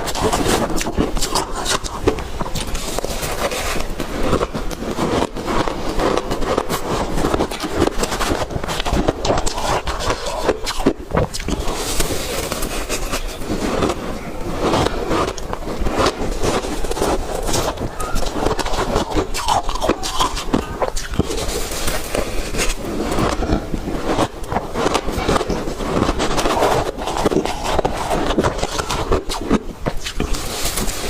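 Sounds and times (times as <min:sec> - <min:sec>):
ice being chewed: 0:00.0 - 0:31.0.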